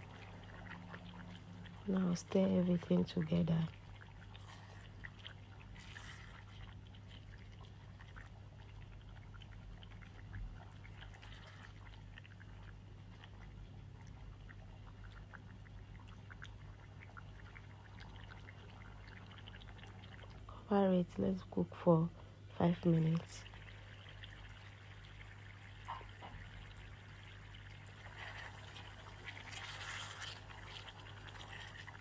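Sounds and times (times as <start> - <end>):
wet squelching of stirred stew: 0.0 - 2.8, 3.7 - 20.5, 23.4 - 32.0
steady low hum: 0.0 - 32.0.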